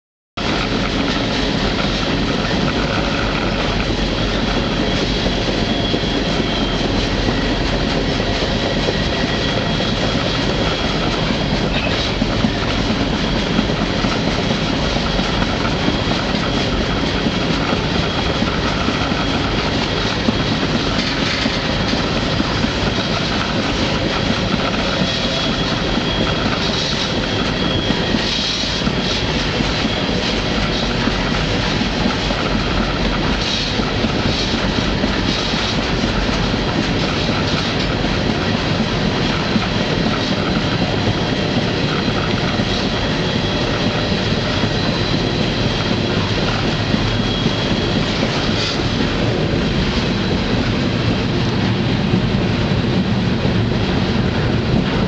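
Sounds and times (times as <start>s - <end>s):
train wheels rumbling on rails: 0.4s - 55.0s.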